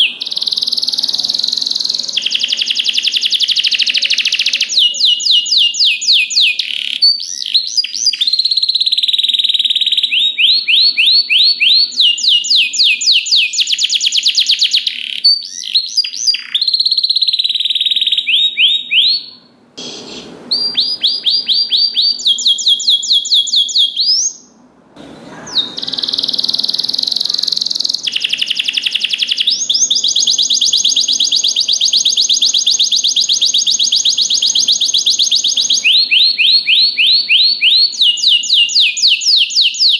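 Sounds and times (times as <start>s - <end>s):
canary singing trills: 0.0s - 24.6s, 25.2s - 39.9s.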